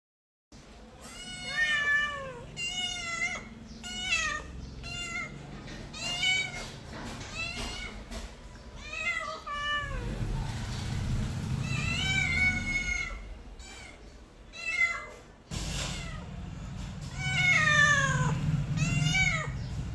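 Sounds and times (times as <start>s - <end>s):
cat meowing: 1.0s - 10.2s, 11.6s - 16.3s, 17.1s - 19.8s.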